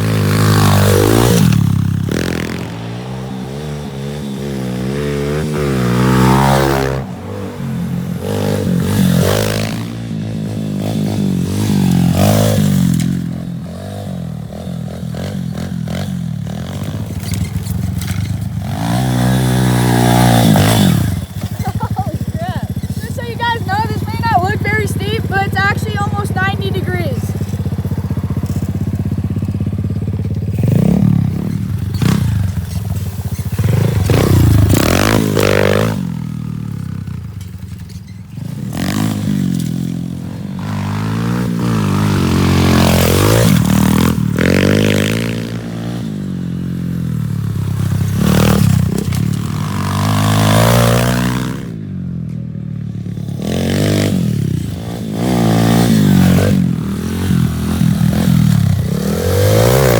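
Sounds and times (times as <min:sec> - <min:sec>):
pit bike engine revving: 0:00.0 - 0:59.9.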